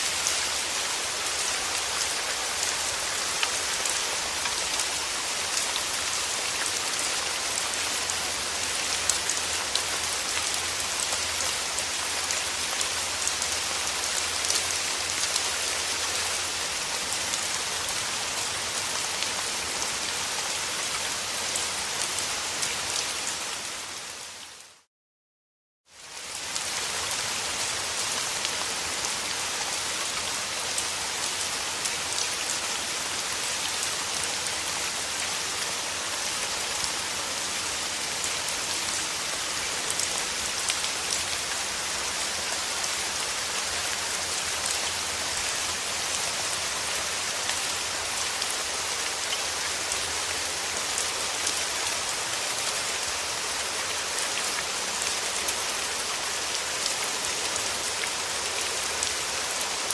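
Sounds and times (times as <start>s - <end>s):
heavy rain falling: 0.0s - 24.9s, 26.0s - 59.9s.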